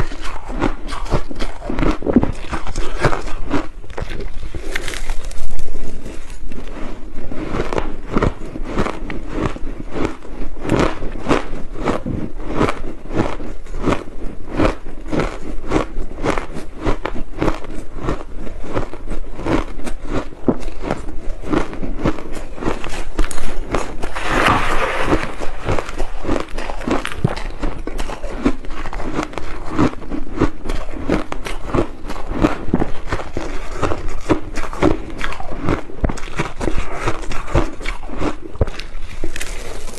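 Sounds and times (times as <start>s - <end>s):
chewing crushed ice: 0.0s - 39.9s.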